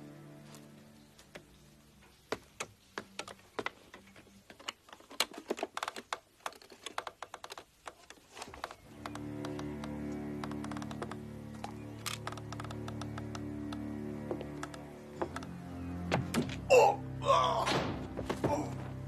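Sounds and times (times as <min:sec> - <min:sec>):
faint background music: 0:00.0 - 0:19.0
sharp clicks and taps: 0:01.2 - 0:16.6.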